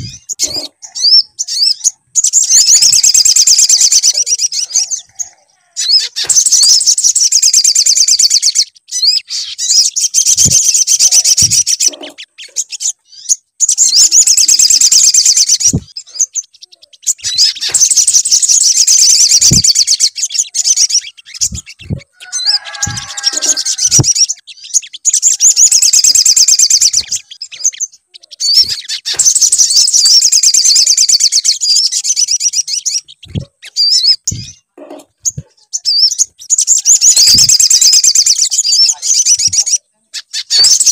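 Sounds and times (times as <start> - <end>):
lower bird warbling: 0.0 - 40.9
rapid high-pitched bird twittering: 0.0 - 40.9.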